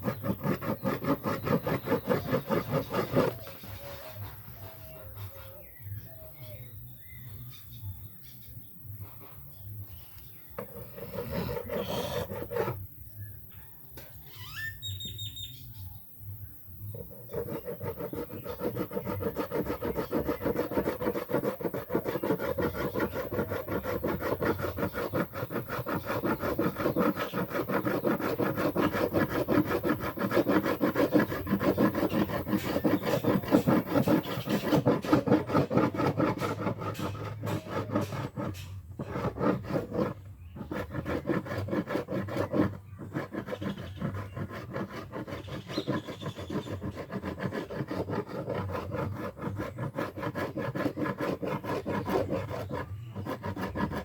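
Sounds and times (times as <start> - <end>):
hand tool scraping wood: 0.0 - 6.0, 9.0 - 12.9, 16.9 - 54.0.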